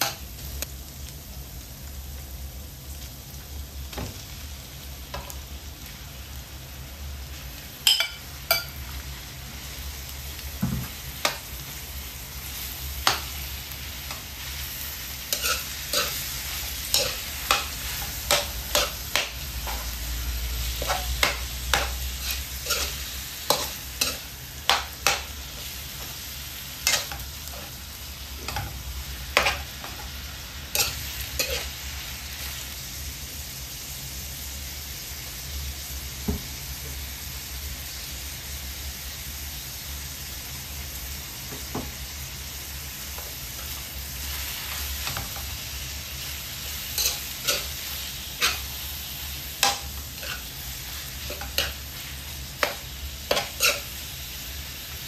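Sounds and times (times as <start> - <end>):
meat sizzling in wok: 0.0 - 55.0.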